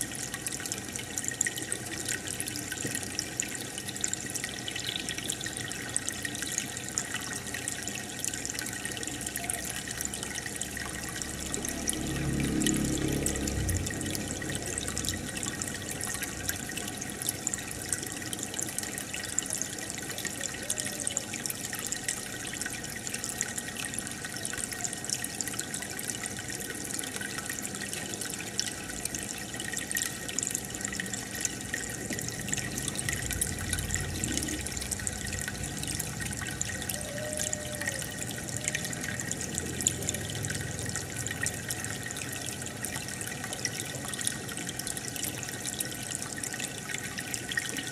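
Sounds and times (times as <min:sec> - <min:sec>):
aquarium water bubbling: 0:00.0 - 0:47.9.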